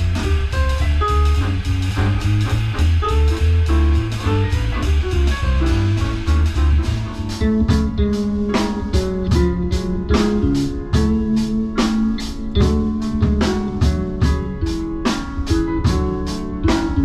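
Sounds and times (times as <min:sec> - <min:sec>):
cymbal beat: 0:00.0 - 0:17.0
deep bass notes: 0:00.0 - 0:17.0
live band playing: 0:00.0 - 0:17.0.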